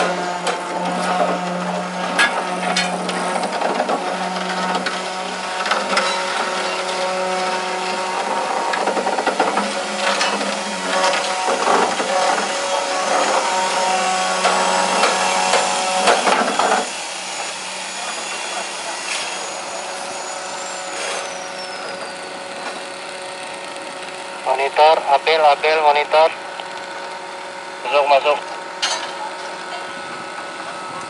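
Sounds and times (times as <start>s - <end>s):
construction machinery humming: 0.0s - 31.0s.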